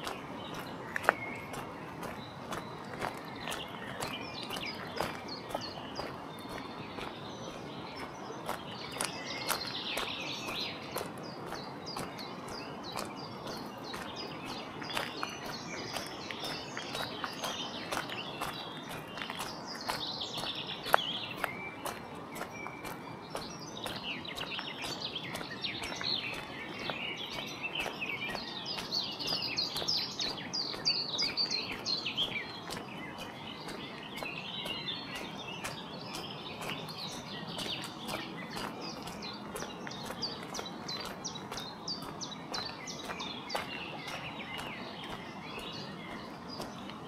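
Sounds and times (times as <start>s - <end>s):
birds chirping and singing: 0.0s - 47.0s
footsteps crunching on gravel: 0.0s - 47.0s.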